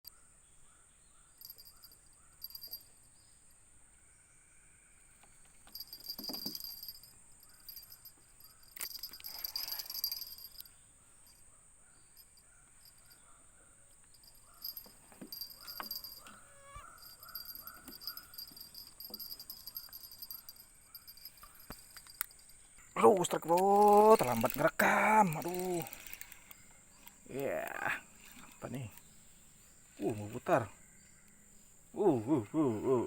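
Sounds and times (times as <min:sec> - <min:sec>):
cricket-like chirps: 0:00.1 - 0:33.0
insects droning: 0:00.2 - 0:33.0
short chirping calls: 0:05.2 - 0:33.0.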